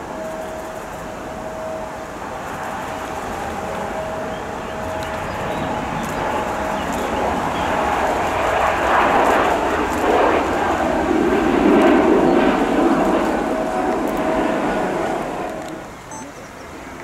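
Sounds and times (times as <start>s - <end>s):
jet engines rumbling: 0.0s - 17.0s
thin jet engine whine: 0.0s - 17.0s.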